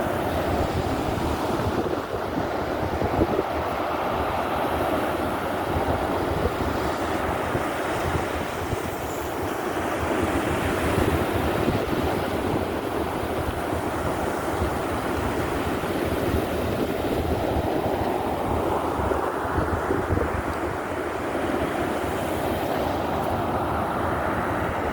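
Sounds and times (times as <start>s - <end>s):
waves breaking: 0.0s - 24.9s
wind buffeting microphone: 0.0s - 24.9s.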